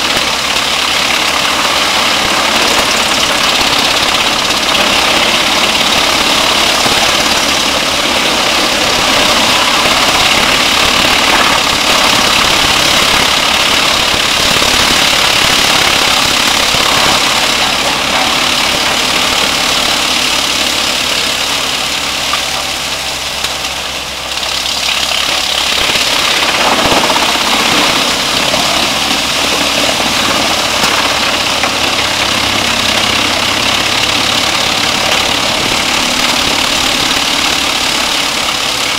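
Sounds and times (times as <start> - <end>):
wood chipper grinding branches: 0.0 - 38.9.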